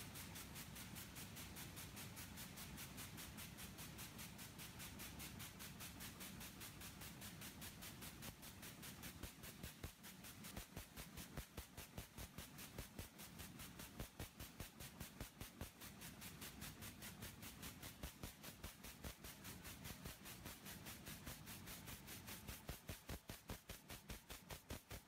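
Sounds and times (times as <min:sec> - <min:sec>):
machine hiss: 0:00.0 - 0:25.0.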